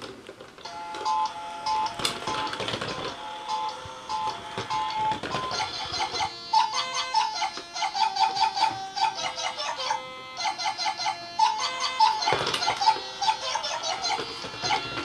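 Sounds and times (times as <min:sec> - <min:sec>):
toy rolling on wooden floor: 0:01.0 - 0:15.0.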